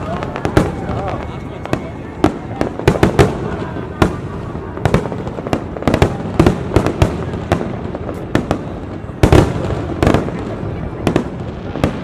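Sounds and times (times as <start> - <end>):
fireworks crackling rumble: 0.0 - 12.0.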